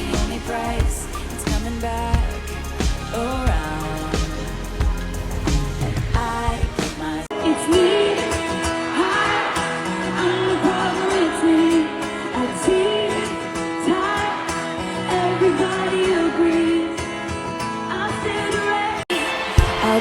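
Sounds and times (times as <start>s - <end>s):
pop instrumental backing: 0.0s - 20.0s
woman singing: 0.0s - 20.0s.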